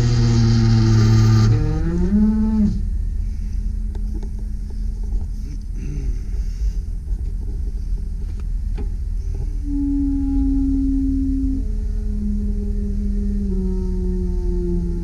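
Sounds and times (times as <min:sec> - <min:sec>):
rising whine: 0:00.0 - 0:15.0.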